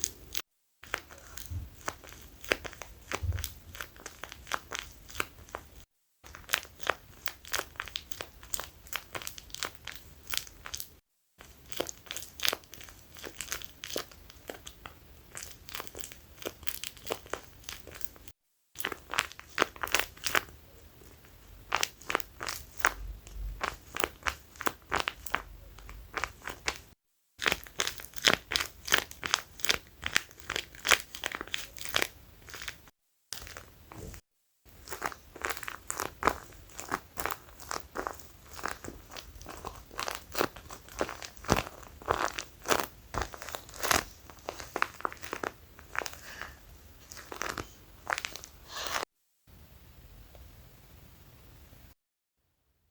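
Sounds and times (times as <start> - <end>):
squishy toys crinkling: 0.0 - 49.1.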